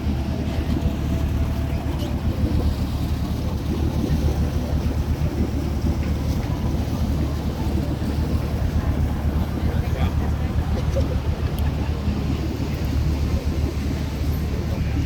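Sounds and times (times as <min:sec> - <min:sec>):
boat engines idling: 0:00.0 - 0:15.0
wind buffeting microphone: 0:00.0 - 0:15.0.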